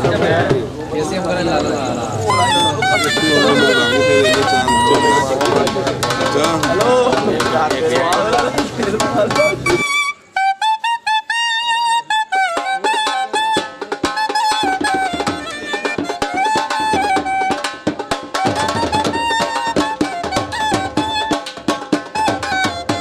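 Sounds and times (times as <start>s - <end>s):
fast drums beating: 0.0s - 10.0s, 11.7s - 23.0s
high wavering melody: 1.5s - 7.2s, 8.1s - 17.7s, 18.4s - 23.0s.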